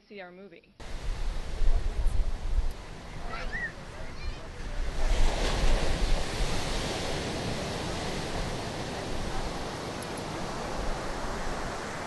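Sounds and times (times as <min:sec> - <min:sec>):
ocean waves breaking on beach: 0:00.8 - 0:12.0.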